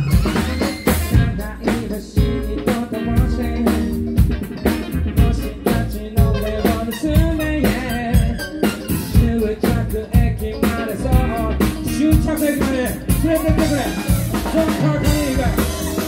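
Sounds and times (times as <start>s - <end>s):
drum kit beat: 0.0s - 16.0s
funk band playing live: 0.0s - 16.0s.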